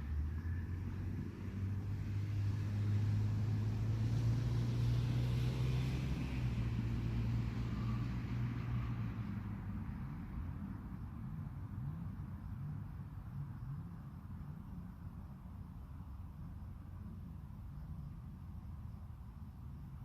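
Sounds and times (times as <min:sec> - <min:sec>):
passing engine hum: 0:00.0 - 0:20.0.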